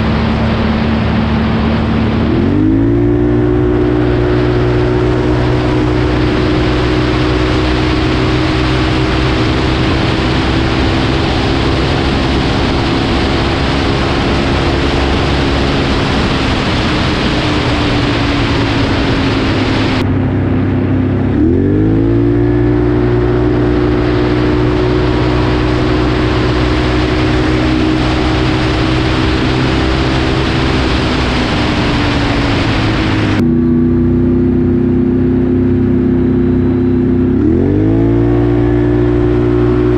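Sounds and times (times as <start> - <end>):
wind rushing over microphone: 0.0 - 33.6
atv engine at high revs: 0.0 - 39.9.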